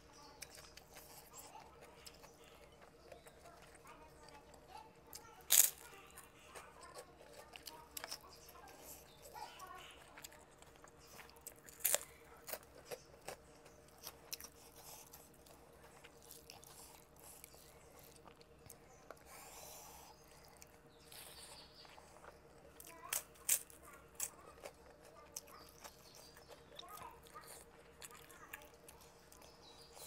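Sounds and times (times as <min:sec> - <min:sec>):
crunching bites and chewing: 0:00.2 - 0:30.0.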